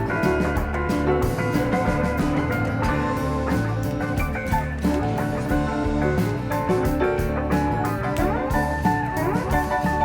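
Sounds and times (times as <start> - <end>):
slide guitar with drum beat: 0.0 - 10.0.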